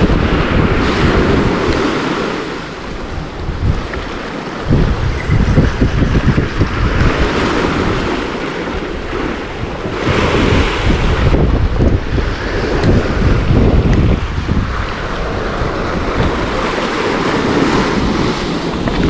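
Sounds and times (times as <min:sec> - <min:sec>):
sea surf hissing: 0:00.0 - 0:19.0
wind buffeting microphone: 0:00.0 - 0:19.0.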